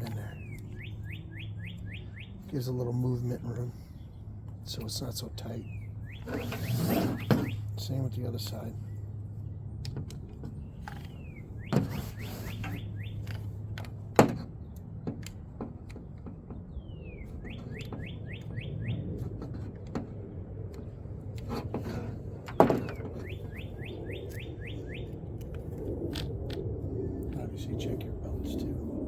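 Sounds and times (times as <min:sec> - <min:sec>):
songbird singing: 0:00.0 - 0:20.1, 0:22.4 - 0:26.2.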